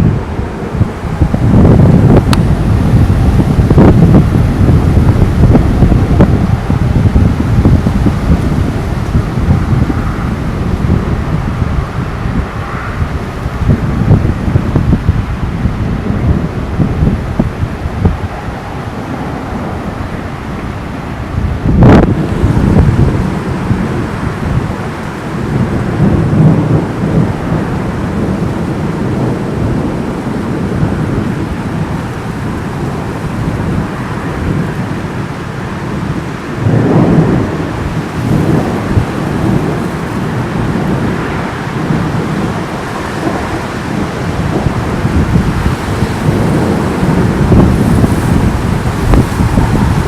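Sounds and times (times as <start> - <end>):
gusty wind: 0.0 - 50.0
rumbling thunder: 0.0 - 50.0
steady rain: 0.0 - 50.0.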